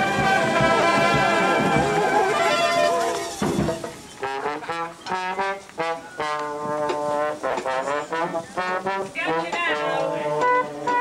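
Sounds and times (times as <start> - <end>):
brass marching band playing: 0.0 - 11.0.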